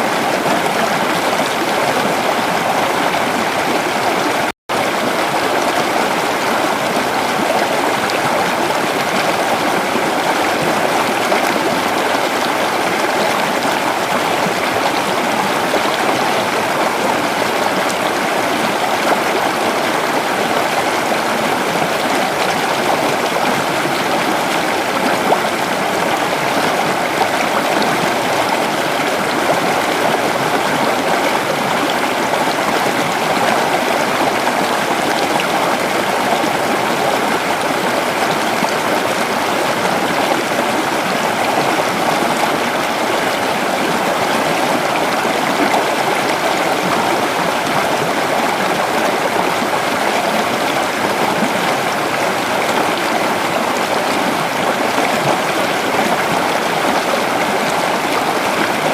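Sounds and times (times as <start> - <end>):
creek water flowing: 0.0 - 58.9.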